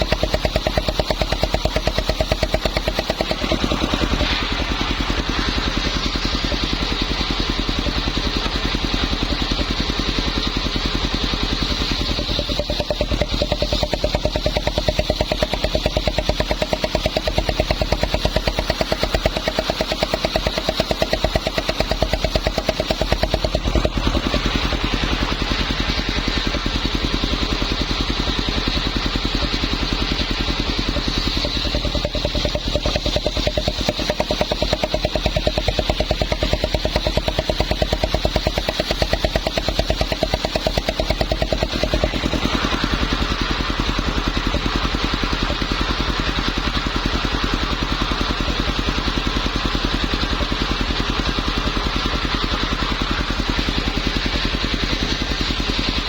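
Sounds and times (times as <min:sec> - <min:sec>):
saw engine running: 0:00.0 - 0:56.0.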